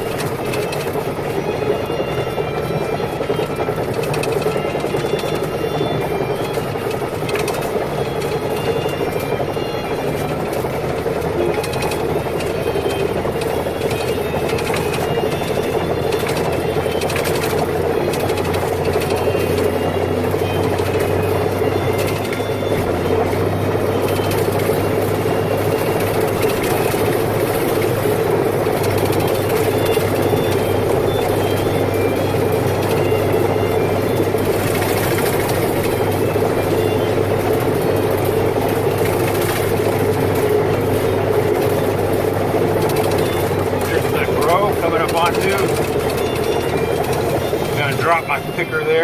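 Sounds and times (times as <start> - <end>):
tractor engine droning: 0.0 - 49.0.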